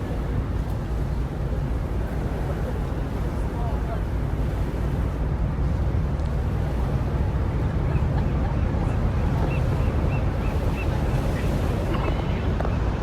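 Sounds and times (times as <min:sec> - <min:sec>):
ship rushing through water: 0:00.0 - 0:13.0
wind buffeting the microphone: 0:00.0 - 0:13.0.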